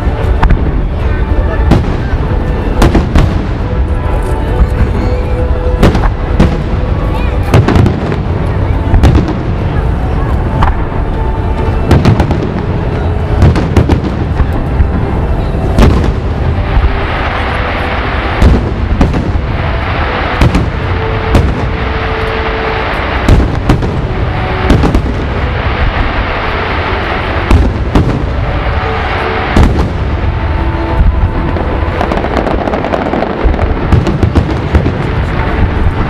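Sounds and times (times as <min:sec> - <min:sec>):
fireworks bangs: 0:00.0 - 0:36.0
rumble of fireworks bursts: 0:00.0 - 0:36.0.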